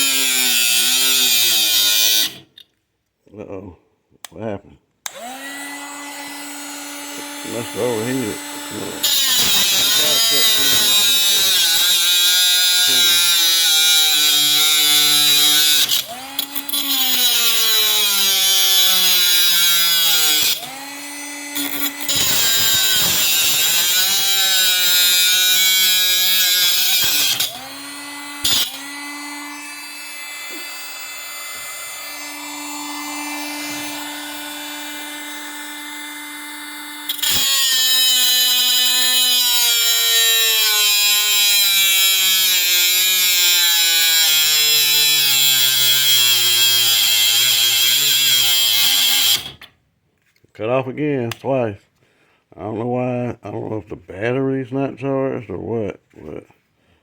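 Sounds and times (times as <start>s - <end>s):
angle grinder cutting metal: 0.0s - 2.6s, 5.1s - 49.7s.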